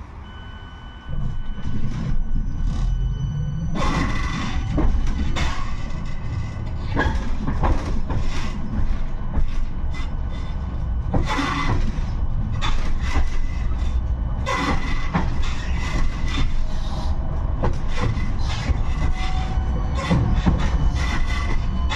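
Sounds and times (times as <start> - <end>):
tram rumbling along track: 0.0 - 21.9
wheels clattering over rails: 1.1 - 21.9.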